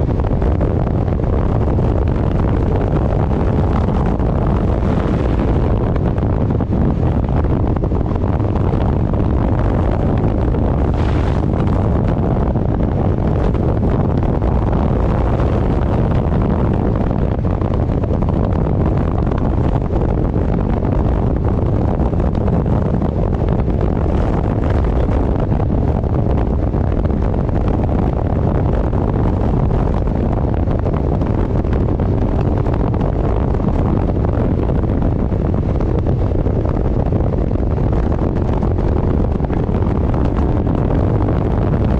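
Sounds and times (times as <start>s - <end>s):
vehicle running noise: 0.0s - 41.9s
wind buffeting microphone: 0.0s - 41.9s.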